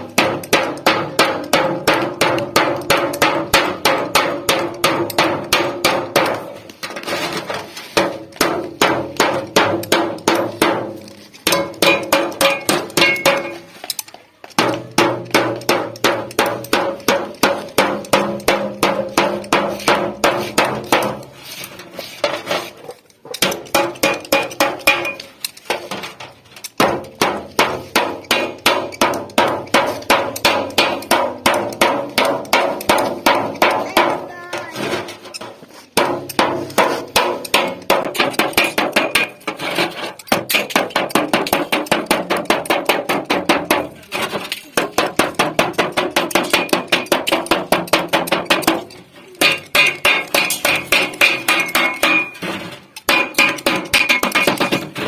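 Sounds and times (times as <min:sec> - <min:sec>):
hammer beating sheet metal: 0:00.0 - 0:13.8, 0:14.6 - 0:21.4, 0:23.4 - 0:55.0.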